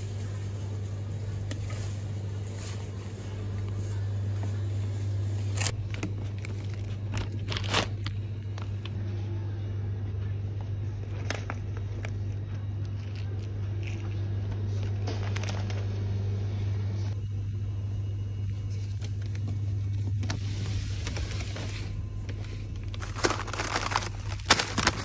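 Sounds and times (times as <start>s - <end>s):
grocery packages being handled: 0.0s - 17.2s, 18.4s - 25.0s
steady low hum: 0.0s - 25.0s.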